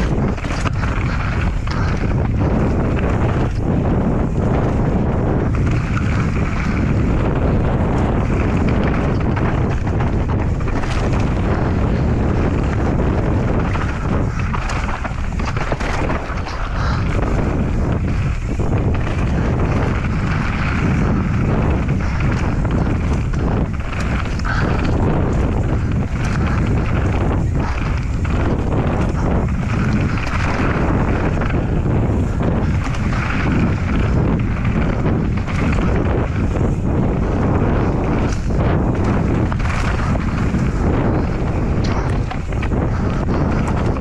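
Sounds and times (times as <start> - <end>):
bike knocks and rattles: 0.0 - 44.0
tyre and wind rush: 0.0 - 44.0
wind buffeting microphone: 0.0 - 44.0.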